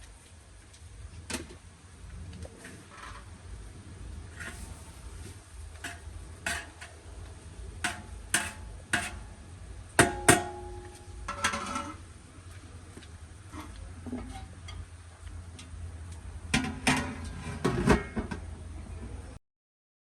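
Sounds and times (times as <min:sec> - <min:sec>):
low steady hum: 0:00.0 - 0:19.4.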